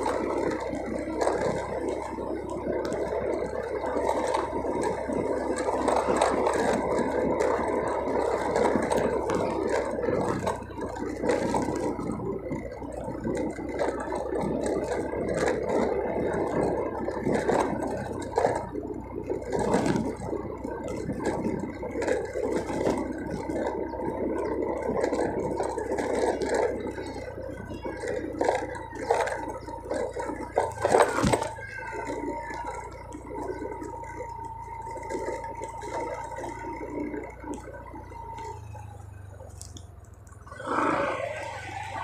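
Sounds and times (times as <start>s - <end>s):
motorcycle engine running: 0.0s - 42.0s
motorcycle rattling: 0.0s - 42.0s
tyres on paving blocks: 0.0s - 42.0s.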